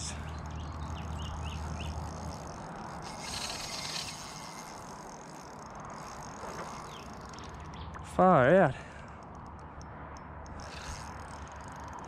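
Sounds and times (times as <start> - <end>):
fishing reel drag ticking: 0.0 - 12.0.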